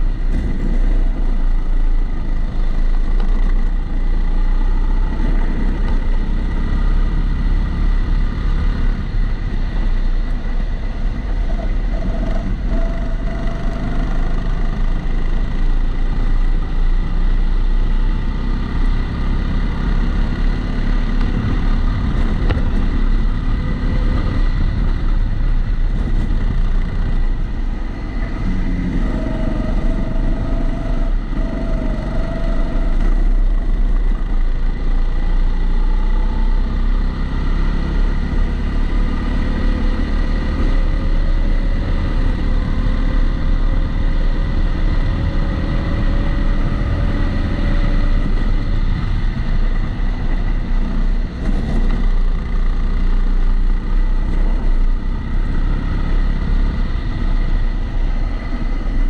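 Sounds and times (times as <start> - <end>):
muffled kart engine driving: 0.0 - 59.0.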